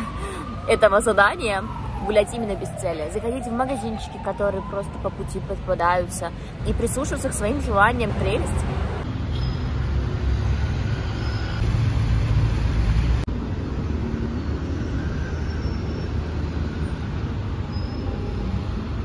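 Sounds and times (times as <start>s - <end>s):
passing road vehicles rumbling: 0.0s - 19.0s.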